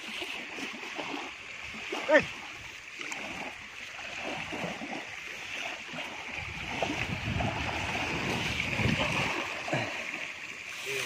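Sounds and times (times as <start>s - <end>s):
small waves washing on shore: 0.0s - 11.0s.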